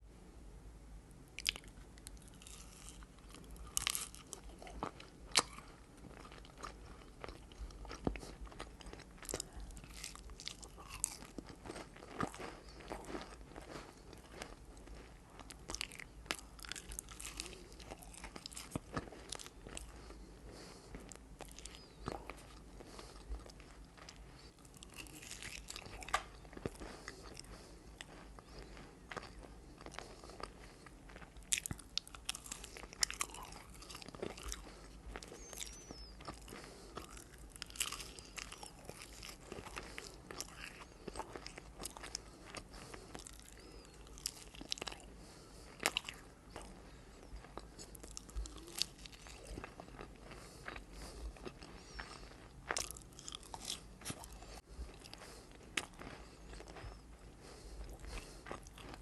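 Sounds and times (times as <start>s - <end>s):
chewing: 1.4s - 59.0s
pastry crunching: 1.4s - 59.0s.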